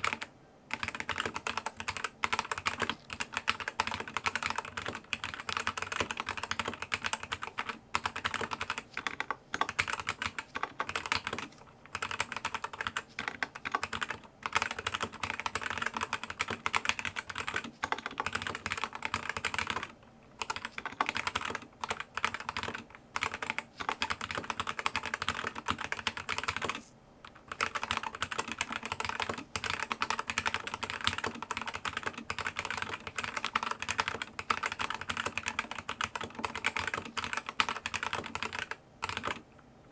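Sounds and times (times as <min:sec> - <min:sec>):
mechanical keyboard typing: 0:00.0 - 0:39.4.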